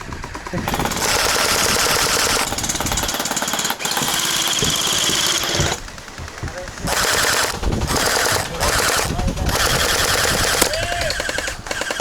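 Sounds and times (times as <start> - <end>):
gel blaster firing full auto: 0.0 - 5.8, 6.7 - 12.0.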